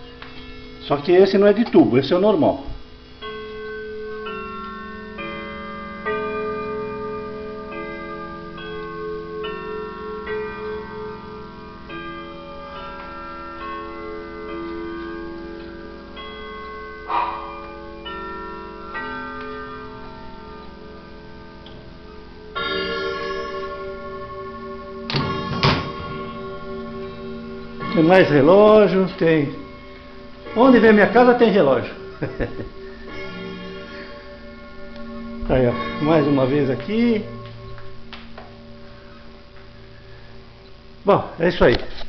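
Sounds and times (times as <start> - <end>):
clock chiming a melody: 0.0 - 41.0.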